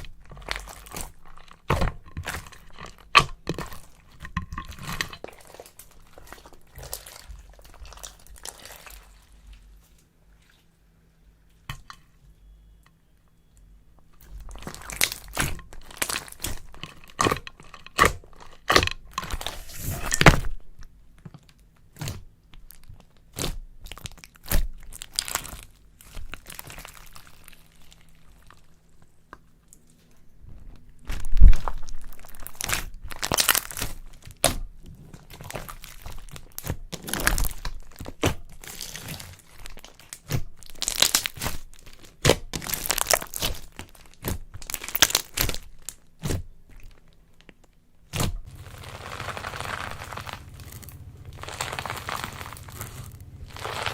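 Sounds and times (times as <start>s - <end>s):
slime crackling and crunching: 0.0s - 9.8s, 14.2s - 20.6s, 21.9s - 29.0s, 30.6s - 53.9s.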